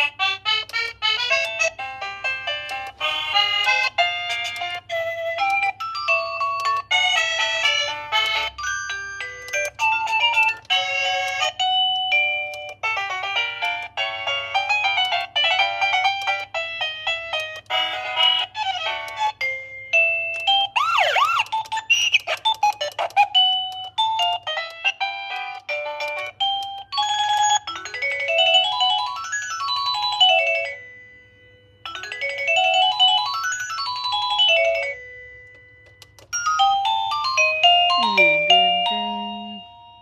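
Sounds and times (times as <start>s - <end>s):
electronic doorbell chime melodies: 1.3s - 18.6s, 23.7s - 40.0s.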